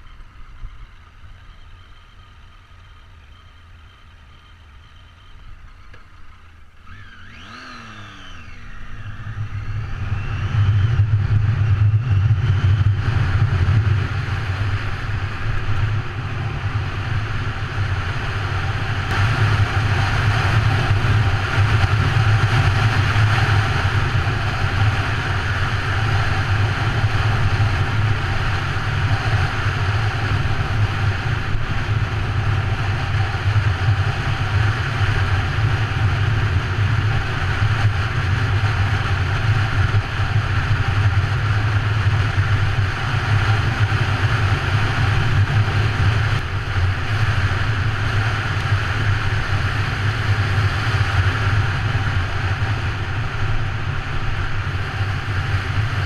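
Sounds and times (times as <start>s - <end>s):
motorcycle engine droning: 0.0s - 56.0s
wind noise on microphone: 6.9s - 56.0s.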